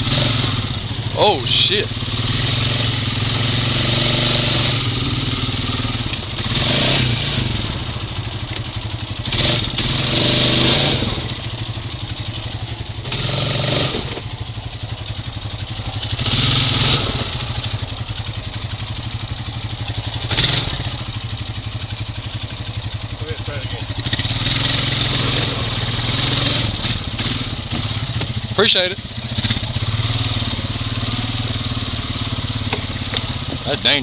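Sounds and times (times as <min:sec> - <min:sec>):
atv engine droning: 0:00.0 - 0:34.0.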